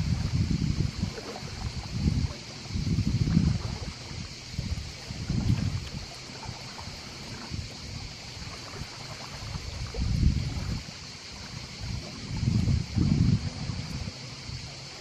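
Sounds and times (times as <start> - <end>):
steady high hiss: 0.0 - 15.0
waves lapping on pebbles: 0.0 - 15.0
wind buffeting microphone: 0.0 - 15.0.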